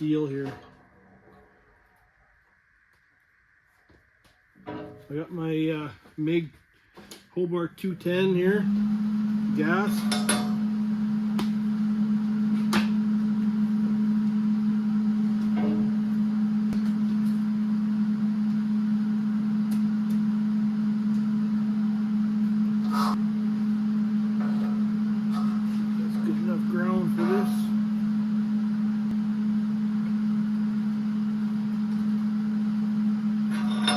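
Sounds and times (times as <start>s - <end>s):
low machine hum: 0.0s - 2.8s, 4.6s - 33.9s.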